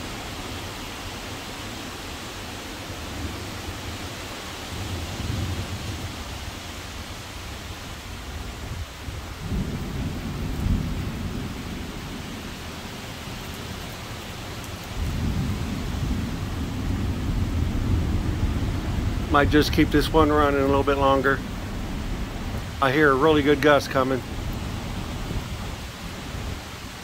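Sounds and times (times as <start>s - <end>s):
heavy rain hiss: 0.0s - 27.0s
gusting wind rumble: 2.9s - 27.0s.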